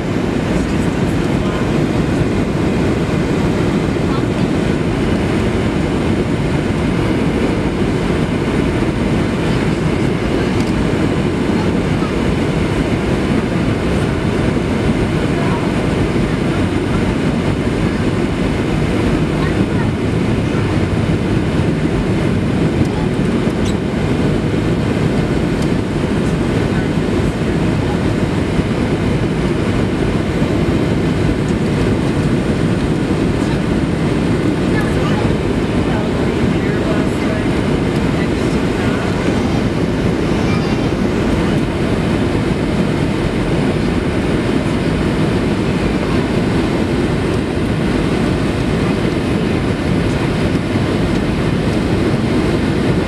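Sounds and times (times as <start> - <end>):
airplane cabin roar: 0.0 - 53.0.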